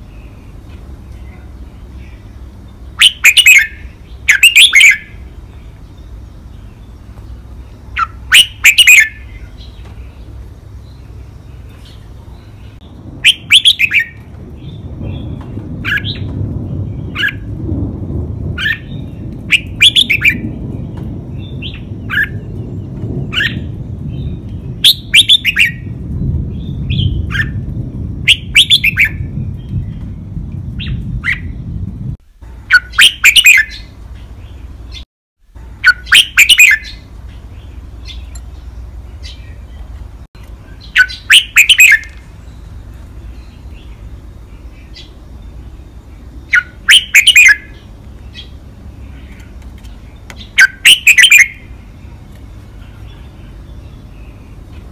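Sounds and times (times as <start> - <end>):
bird singing: 0.0 - 17.5, 18.1 - 54.9
low steady rumble: 0.0 - 54.9.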